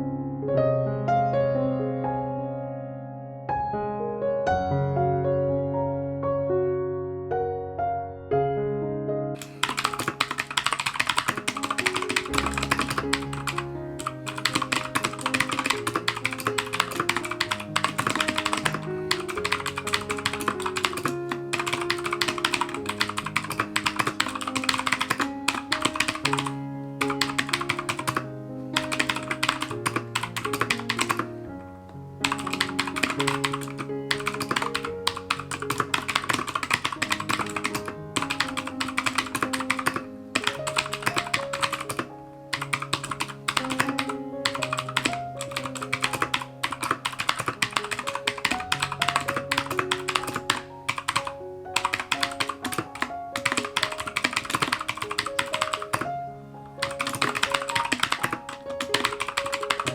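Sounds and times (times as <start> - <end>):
background music with melody: 0.0 - 59.9
clicky keyboard typing: 9.4 - 31.4, 32.2 - 56.1, 56.8 - 59.9.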